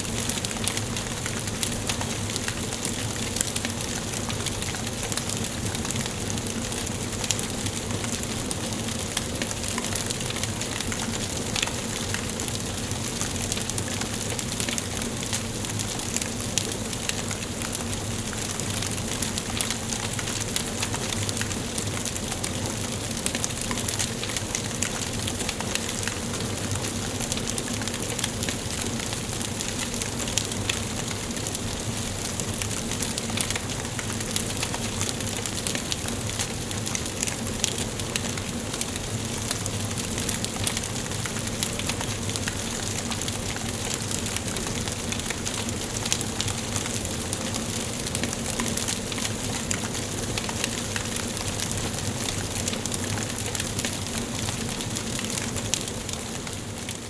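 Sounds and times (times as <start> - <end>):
fire crackles and pops: 0.0 - 57.0
wood fire hissing: 0.0 - 57.0.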